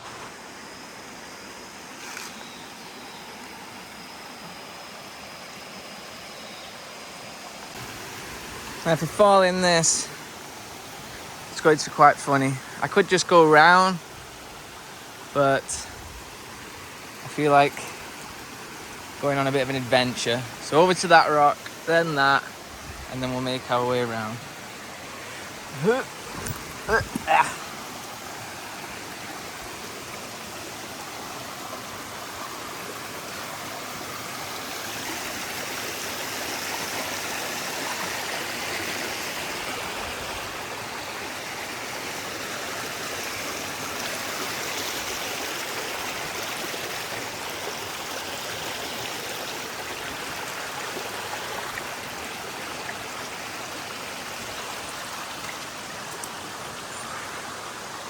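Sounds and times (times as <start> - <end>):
water rushing over rocks: 7.2 - 58.0.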